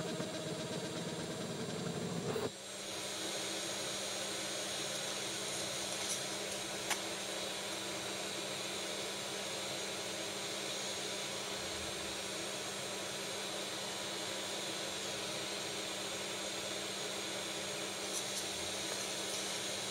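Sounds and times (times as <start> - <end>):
cooling fan whir and hiss: 0.0 - 19.9.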